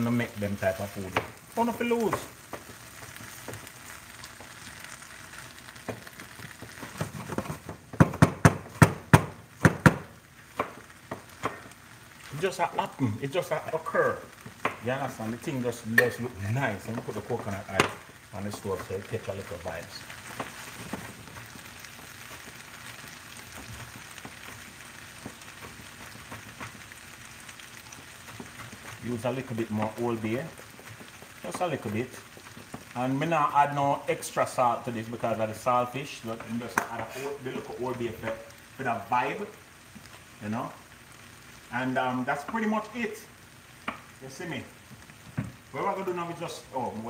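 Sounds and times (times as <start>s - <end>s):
stir-fry sizzling in a pan: 0.0s - 47.0s.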